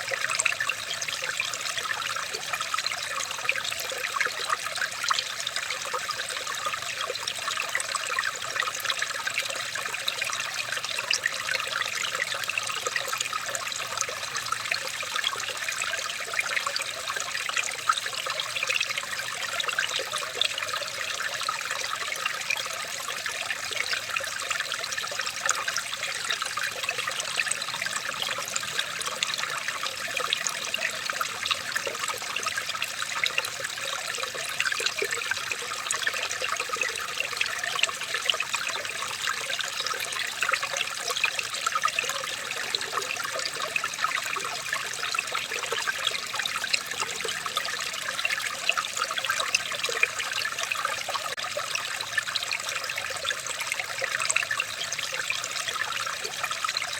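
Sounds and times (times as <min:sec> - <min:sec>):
water trickling and splashing: 0:00.0 - 0:56.9.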